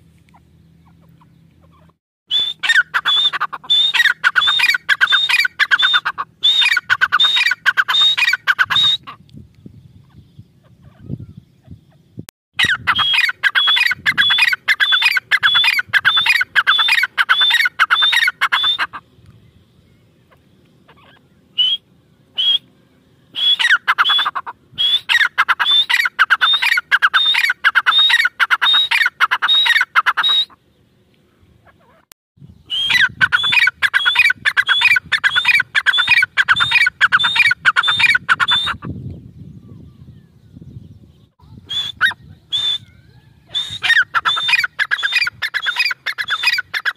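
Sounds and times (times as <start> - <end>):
bird calling ringing notes: 0.4 - 9.2, 12.6 - 38.9, 39.5 - 46.9.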